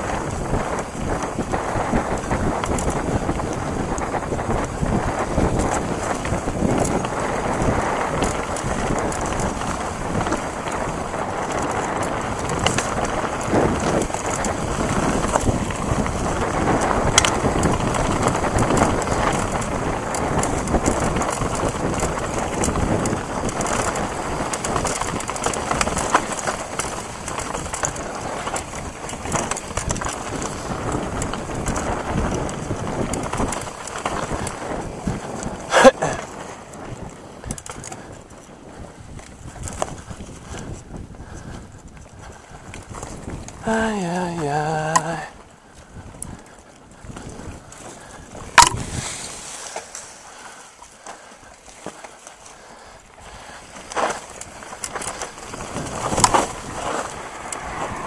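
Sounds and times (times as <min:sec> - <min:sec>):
wind on microphone: 0:00.0 - 0:51.8, 0:52.6 - 0:58.0
bike rattling clicks: 0:00.0 - 0:58.0
bike tyres on dirt and leaves: 0:00.0 - 0:58.0.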